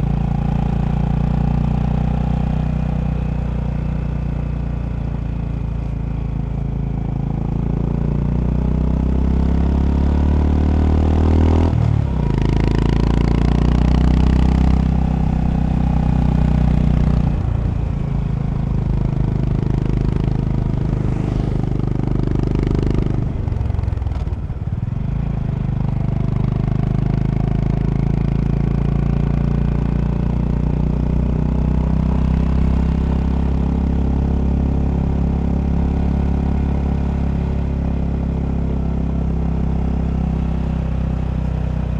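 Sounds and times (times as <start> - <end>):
motorcycle engine revving: 7.2 - 41.9.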